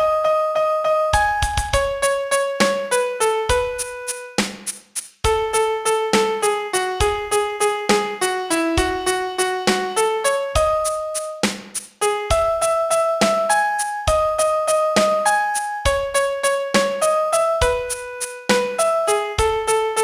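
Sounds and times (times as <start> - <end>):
piano melody over bass notes: 0.0 - 4.4, 5.3 - 20.0.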